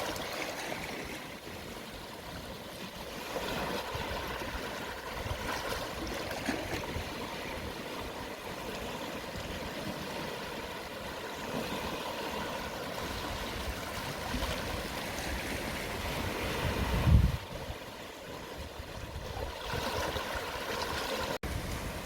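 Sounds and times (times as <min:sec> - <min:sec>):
sea waves washing on shore: 0:00.0 - 0:22.0.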